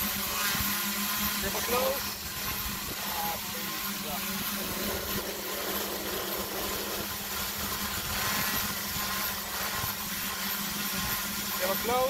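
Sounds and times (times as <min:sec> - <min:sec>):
constant low hum: 0:00.0 - 0:12.0
drone propellers buzzing: 0:00.0 - 0:12.0.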